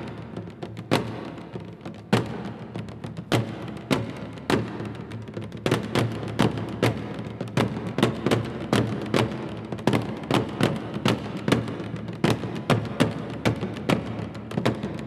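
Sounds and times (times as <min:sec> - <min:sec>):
barrel drums struck with sticks: 0:00.0 - 0:15.0.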